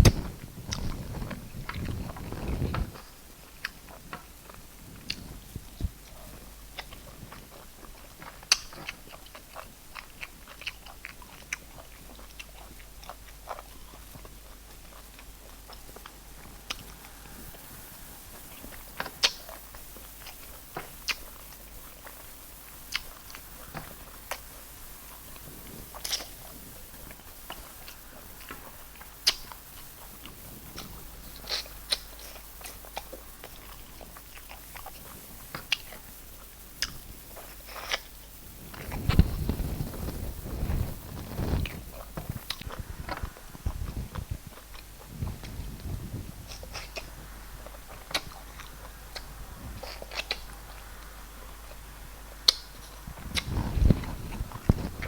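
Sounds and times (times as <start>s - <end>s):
chewing and mouth smacks: 0.0s - 51.8s.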